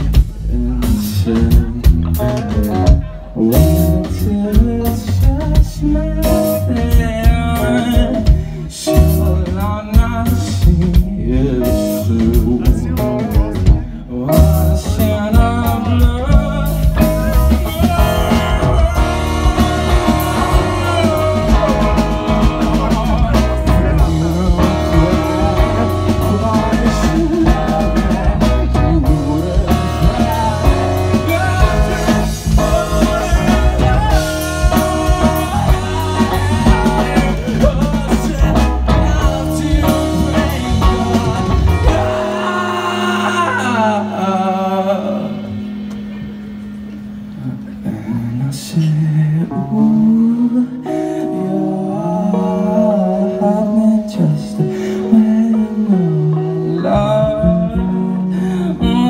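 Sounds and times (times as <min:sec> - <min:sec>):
drum kit: 0:00.0 - 0:47.3
bass guitar: 0:00.0 - 0:59.0
electric guitar: 0:00.0 - 0:59.0.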